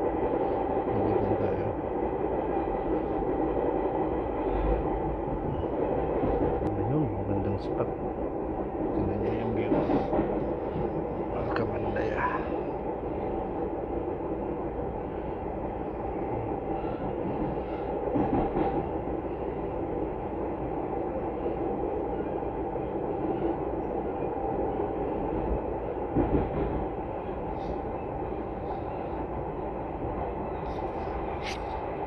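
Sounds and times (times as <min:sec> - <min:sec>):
train running on track: 0:00.0 - 0:32.0.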